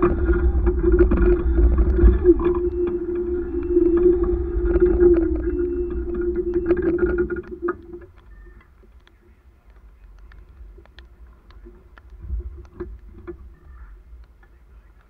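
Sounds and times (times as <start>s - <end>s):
vehicle engine hum: 0.0s - 15.0s
light ticks: 0.1s - 15.0s.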